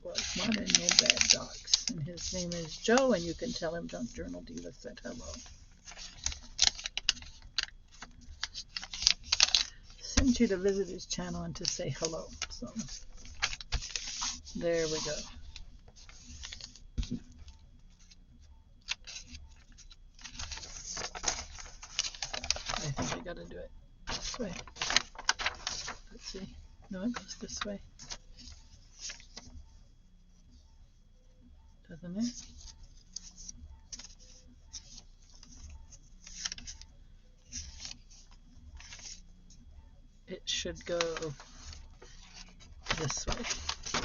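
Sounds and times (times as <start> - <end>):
paper rustling: 0.0 - 18.2, 18.8 - 29.8, 32.2 - 39.7, 40.6 - 44.0.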